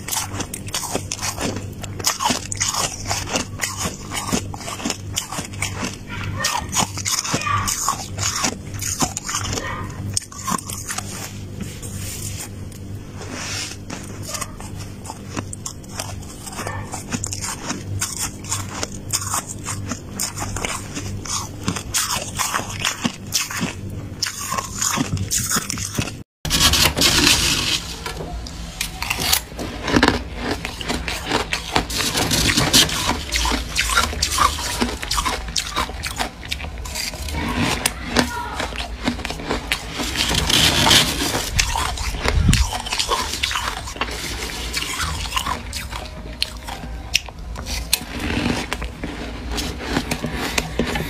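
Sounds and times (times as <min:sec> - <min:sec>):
frost crunching being chewed: 0:00.0 - 0:51.0.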